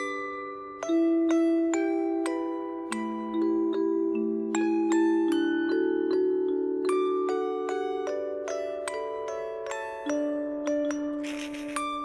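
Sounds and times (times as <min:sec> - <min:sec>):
slow bell-like melody: 0:00.0 - 0:12.0.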